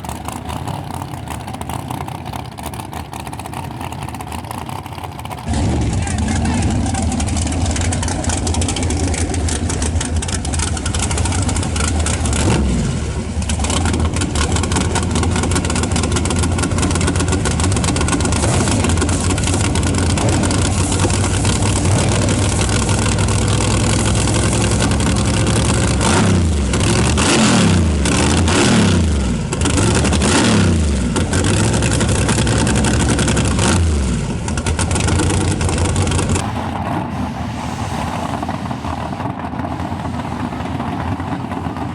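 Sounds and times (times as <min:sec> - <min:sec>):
loud drag-racing car engines: 0:00.0 - 0:41.9.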